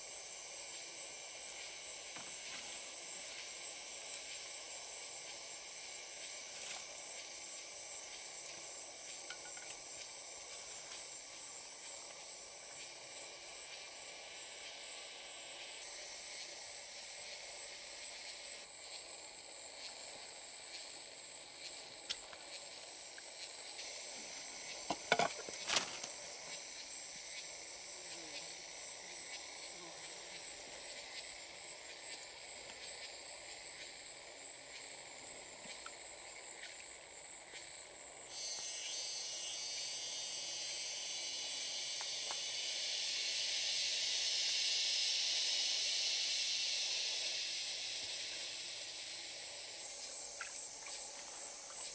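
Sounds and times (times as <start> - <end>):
even hiss: 0.0 - 51.9
pulsing insect drone: 0.0 - 51.9.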